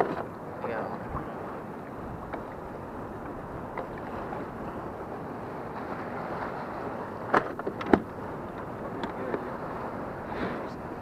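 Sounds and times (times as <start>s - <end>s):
choppy water: 0.0s - 11.0s
wind buffeting microphone: 0.6s - 11.0s.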